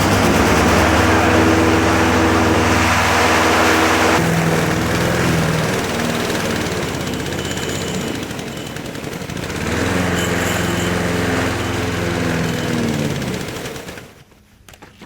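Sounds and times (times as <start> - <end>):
lawn mower engine running: 0.0 - 14.2.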